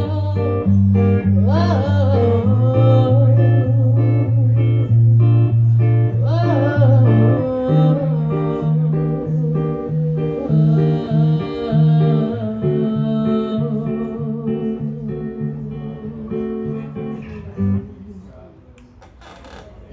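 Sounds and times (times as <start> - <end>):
acoustic band with plucked guitar: 0.0 - 18.2.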